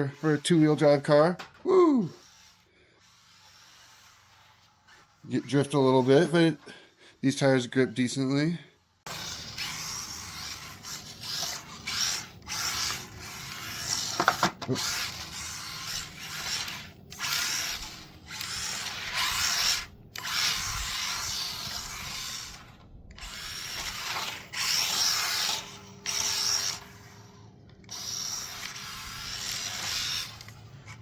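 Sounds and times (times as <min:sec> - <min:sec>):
small electric motor whirring: 0:00.0 - 0:01.2, 0:01.8 - 0:06.7, 0:08.8 - 0:31.0
tyres scrubbing on concrete: 0:00.0 - 0:01.3, 0:02.0 - 0:08.4, 0:09.0 - 0:31.0.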